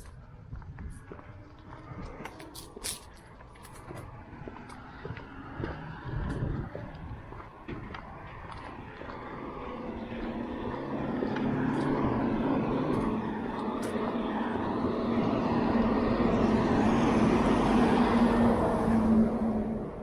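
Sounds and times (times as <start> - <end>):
lorry engine drone: 0.0 - 20.0.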